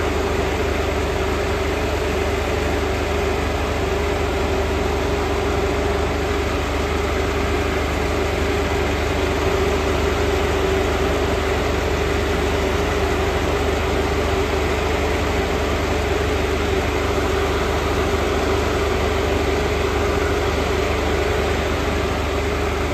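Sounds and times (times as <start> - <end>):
diesel engine idling: 0.0 - 22.9
radiator fan running: 0.0 - 22.9.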